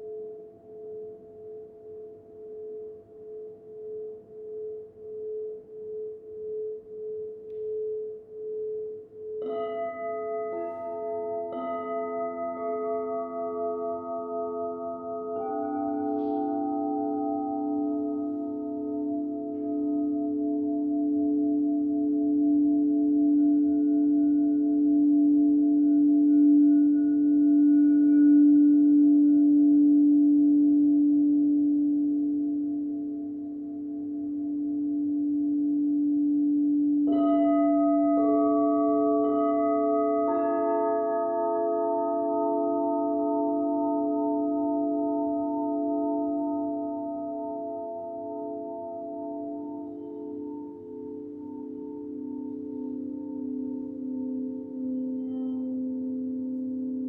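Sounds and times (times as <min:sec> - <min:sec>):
crystal bowls struck ringing: 0:00.0 - 0:57.0
crystal singing bowl tone: 0:00.0 - 0:57.0.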